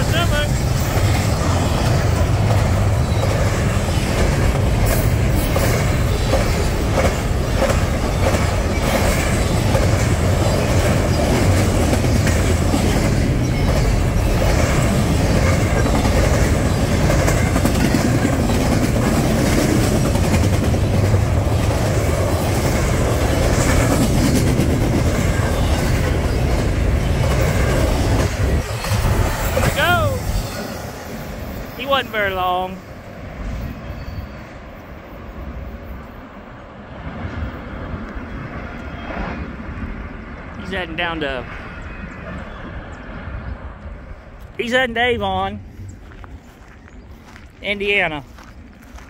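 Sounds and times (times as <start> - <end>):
train wheels rumbling on rail: 0.0 - 49.0.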